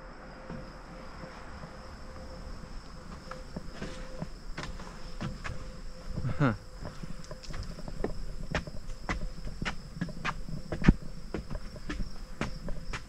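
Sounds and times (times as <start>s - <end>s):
insects trilling: 0.0s - 13.0s
footsteps on wooden boardwalk: 0.4s - 13.0s.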